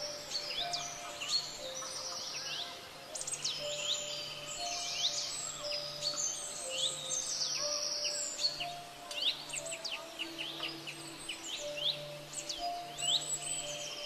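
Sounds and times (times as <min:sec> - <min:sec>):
birds chirping and calling: 0:00.0 - 0:14.0
soft background music: 0:00.0 - 0:14.0.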